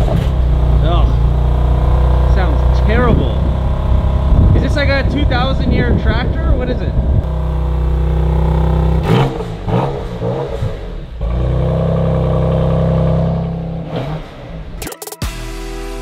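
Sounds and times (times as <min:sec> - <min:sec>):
car engine at low revs: 0:00.0 - 0:14.8.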